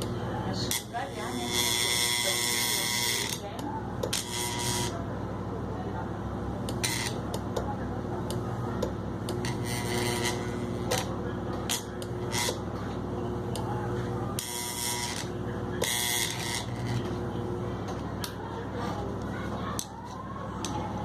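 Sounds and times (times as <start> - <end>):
fan motor humming: 0.0 - 21.0.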